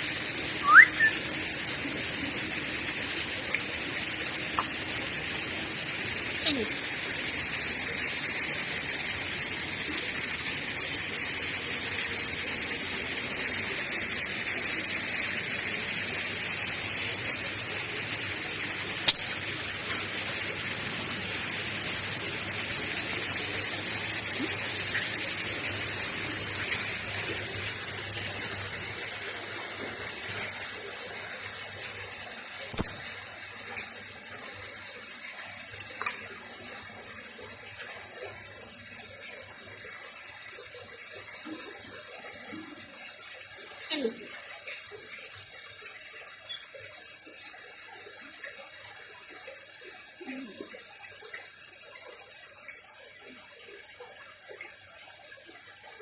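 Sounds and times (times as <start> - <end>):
rushing hiss of running water: 0.0 - 52.6.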